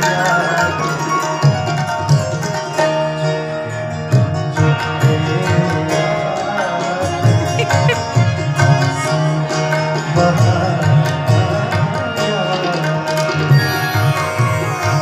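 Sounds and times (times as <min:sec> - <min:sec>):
held keyboard melody: 0:00.0 - 0:15.0
tabla playing a rhythm: 0:00.0 - 0:15.0.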